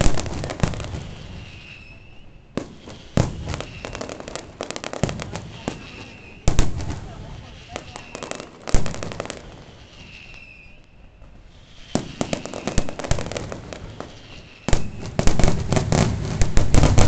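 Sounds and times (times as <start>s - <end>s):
rapid firework crackling: 0.0s - 10.8s, 11.4s - 17.0s.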